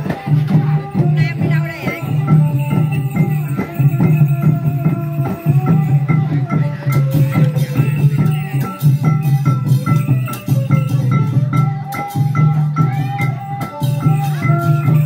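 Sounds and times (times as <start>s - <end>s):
hand drums beating: 0.0s - 15.0s
rattling percussion: 0.0s - 15.0s.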